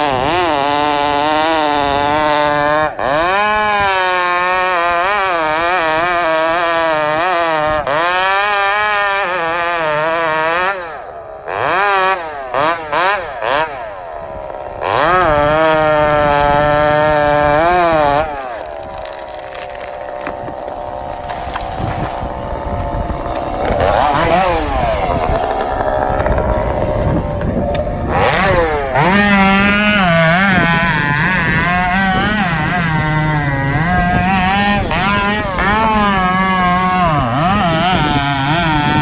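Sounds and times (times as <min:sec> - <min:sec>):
two-stroke chainsaw running: 0:00.0 - 0:39.0.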